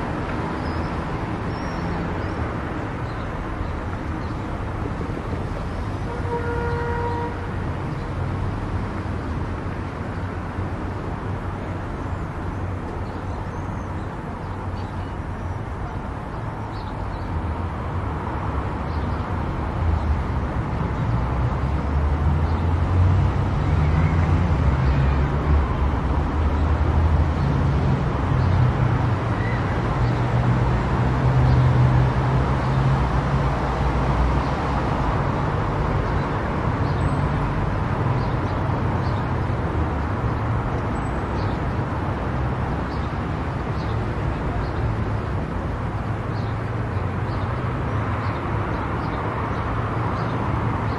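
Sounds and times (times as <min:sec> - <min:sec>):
road and tyre noise: 0:00.0 - 0:50.9.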